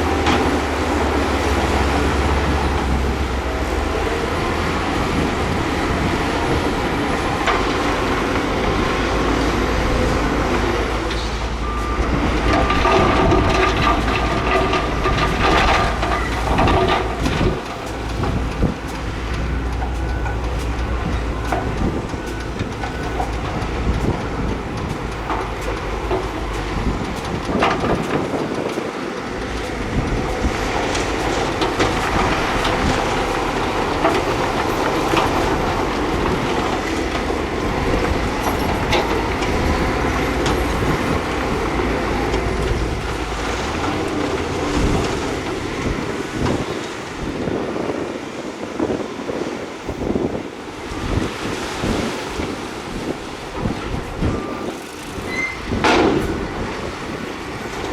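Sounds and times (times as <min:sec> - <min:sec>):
diesel engine running: 0:00.0 - 0:57.9
steel tracks clanking: 0:00.0 - 0:57.9.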